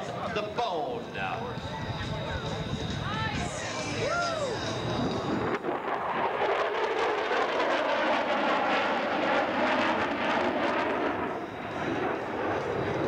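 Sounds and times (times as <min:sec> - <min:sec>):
jet bomber flying past: 0:00.0 - 0:13.0.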